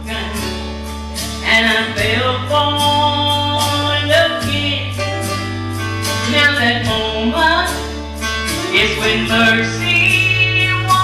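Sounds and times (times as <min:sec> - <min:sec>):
country band with guitar and bass: 0:00.0 - 0:11.0.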